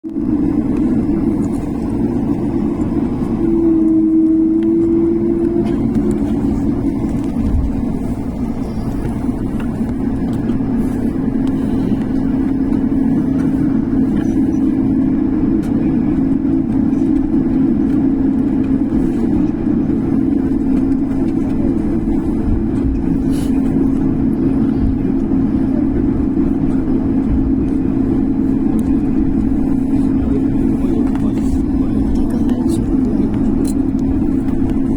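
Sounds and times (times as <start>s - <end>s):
jet airliner engines droning: 0.0s - 34.9s.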